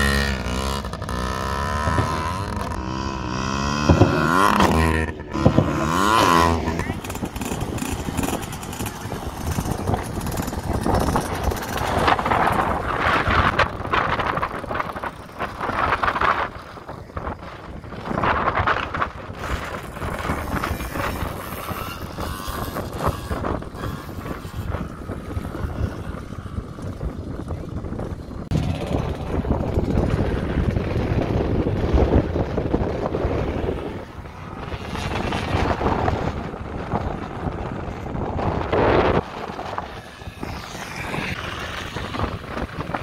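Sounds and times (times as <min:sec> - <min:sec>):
small dirt bike engines: 0:00.0 - 0:43.0
wind buffeting microphone: 0:00.0 - 0:43.0.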